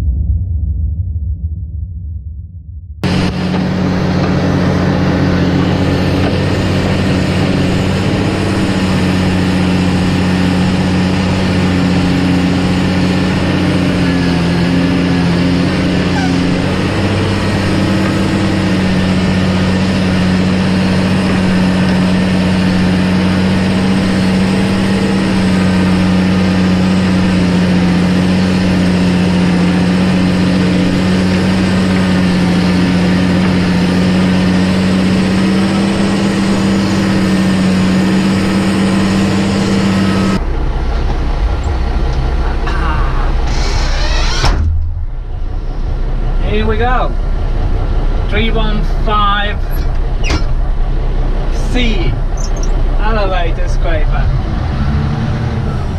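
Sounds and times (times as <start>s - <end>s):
diesel engine running: 3.0s - 55.9s.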